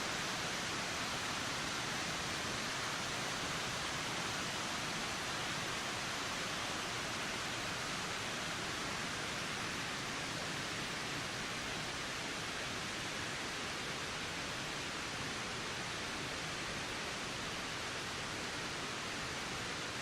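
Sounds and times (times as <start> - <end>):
steady wind hiss: 0.0 - 20.0.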